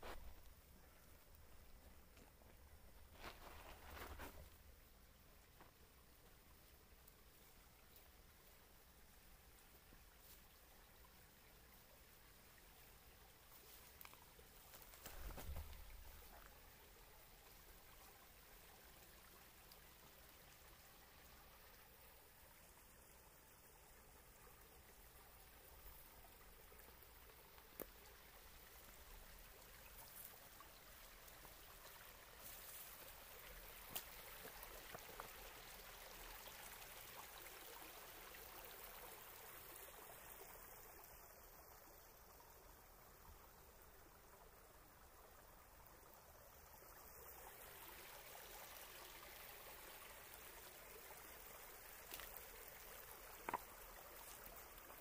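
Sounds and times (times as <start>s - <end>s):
creek spilling over rocks: 0.0s - 55.0s.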